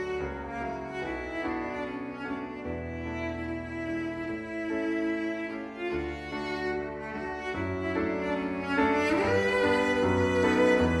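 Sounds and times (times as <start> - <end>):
cello: 0.0 - 11.0.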